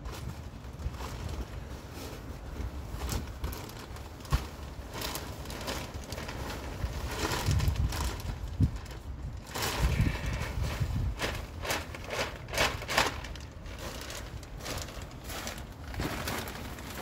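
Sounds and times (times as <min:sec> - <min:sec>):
low wind rumble on microphone: 0:00.0 - 0:17.0
plastic bag crinkling: 0:00.0 - 0:17.0.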